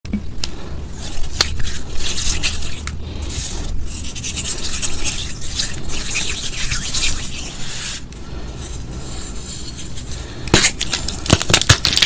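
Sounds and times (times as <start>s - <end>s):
chalk being crushed: 1.0s - 12.0s.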